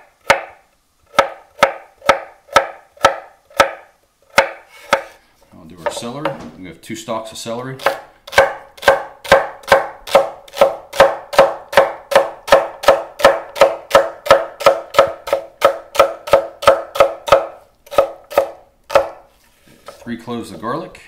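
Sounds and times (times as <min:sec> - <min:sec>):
knife chopping on wooden board: 0:00.0 - 0:05.2, 0:05.8 - 0:06.5, 0:07.8 - 0:19.2.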